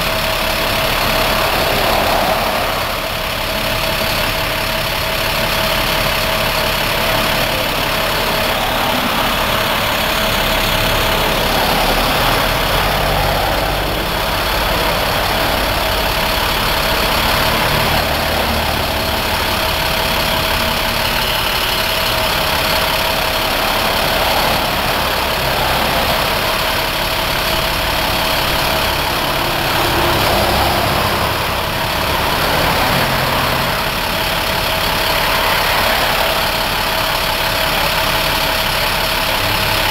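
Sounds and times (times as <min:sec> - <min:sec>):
steady whine: 0:00.0 - 0:39.9
truck engine idling: 0:00.0 - 0:39.9.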